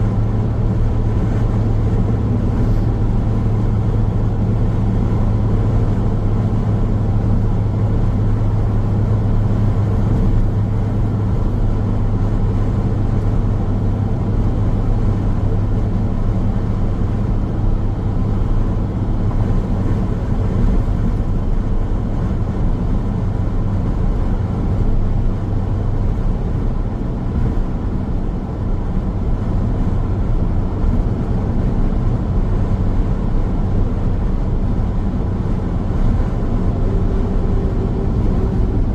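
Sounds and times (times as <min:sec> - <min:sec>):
car driving on highway: 0:00.0 - 0:38.9.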